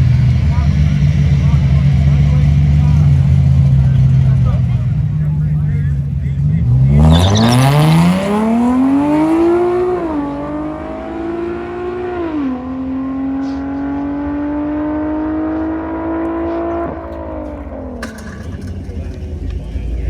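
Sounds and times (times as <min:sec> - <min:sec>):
engine accelerating hard: 0:00.0 - 0:20.0.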